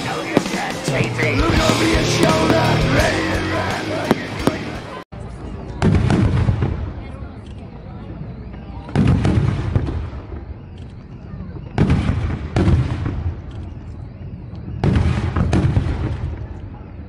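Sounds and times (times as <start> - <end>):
fireworks exploding: 0.0 - 5.0, 5.7 - 17.0.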